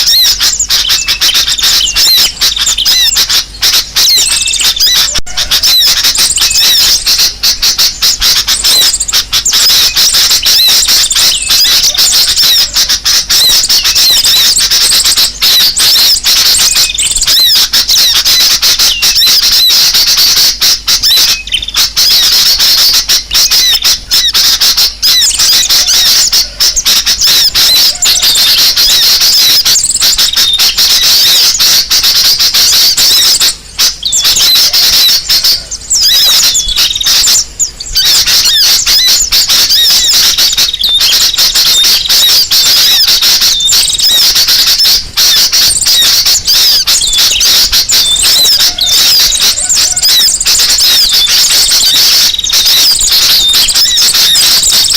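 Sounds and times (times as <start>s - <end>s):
small birds chattering and squeaking: 0.0s - 54.9s.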